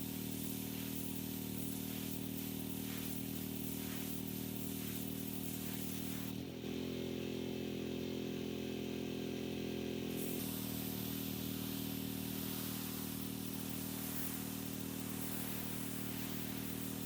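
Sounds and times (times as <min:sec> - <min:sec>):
pressure washer engine running: 0:00.0 - 0:17.0.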